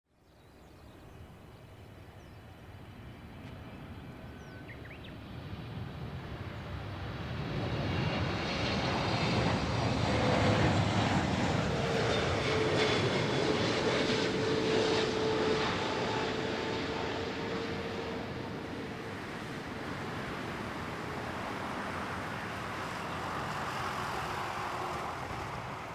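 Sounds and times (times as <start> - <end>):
jet engines roaring: 2.4 - 25.9.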